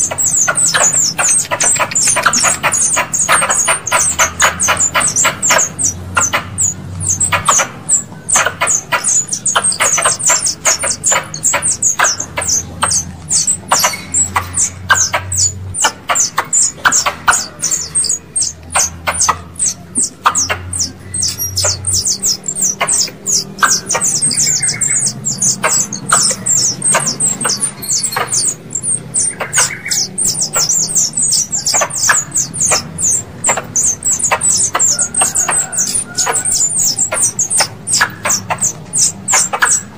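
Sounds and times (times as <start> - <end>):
sharp clicks: 0.0 - 39.9
squirrel chirps: 0.0 - 39.9.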